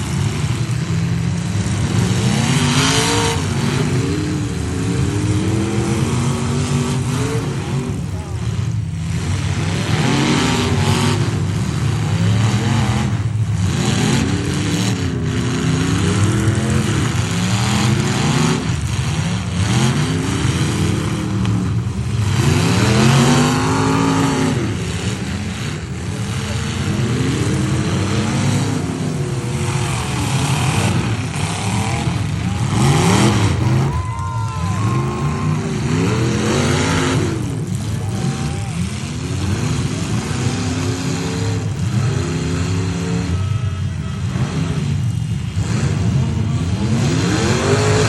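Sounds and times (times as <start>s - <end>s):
truck engines revving hard: 0.0s - 48.0s.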